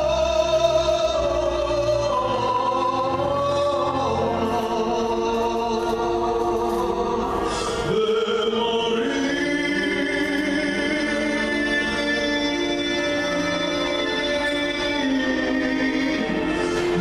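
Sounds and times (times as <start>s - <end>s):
man singing classically: 0.0s - 17.0s.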